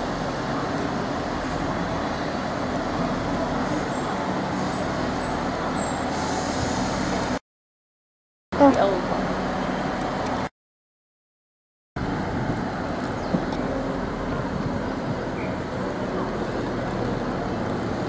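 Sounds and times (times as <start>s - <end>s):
train engine rumbling: 0.0s - 7.4s, 8.6s - 10.5s, 12.0s - 18.0s.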